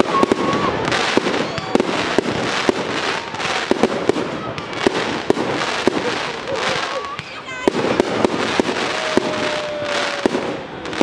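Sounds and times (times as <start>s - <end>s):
fireworks crackle and hiss: 0.0s - 11.0s.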